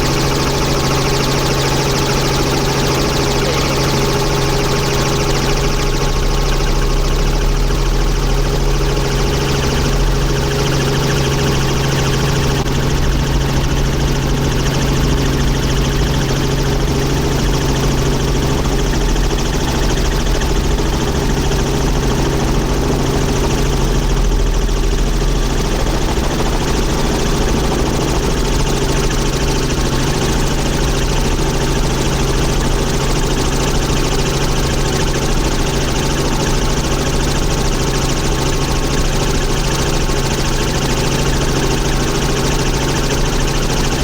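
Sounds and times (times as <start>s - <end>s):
helicopter engine and rotor drone: 0.0s - 44.0s.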